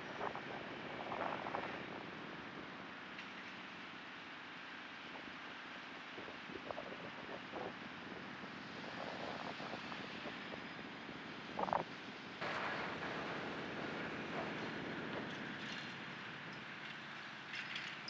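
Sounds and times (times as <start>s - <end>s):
distant traffic: 0.0s - 18.0s
wind: 0.0s - 18.0s.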